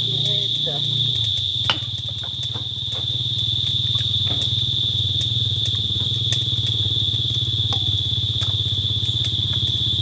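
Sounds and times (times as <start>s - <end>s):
faint ticks: 0.0s - 10.0s
high-pitched insect drone: 0.0s - 10.0s.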